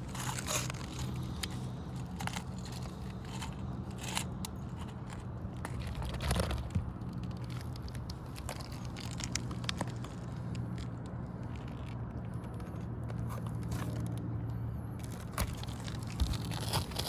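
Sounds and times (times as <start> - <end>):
roof shingles crackling and scraping: 0.0 - 14.3, 15.0 - 17.0
steady low hum: 0.0 - 17.0.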